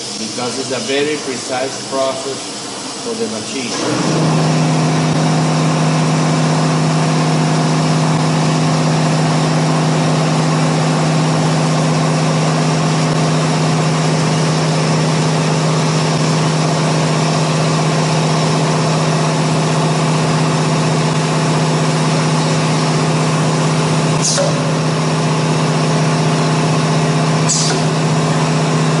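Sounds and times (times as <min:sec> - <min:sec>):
cnc router machine hum: 0:00.0 - 0:29.0.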